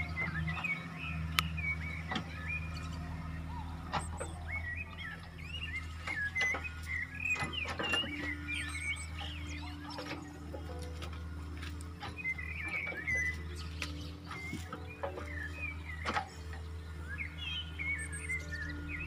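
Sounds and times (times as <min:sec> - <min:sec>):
heavy diesel engine running: 0:00.0 - 0:19.0
high chirps and squeaks: 0:00.0 - 0:19.0.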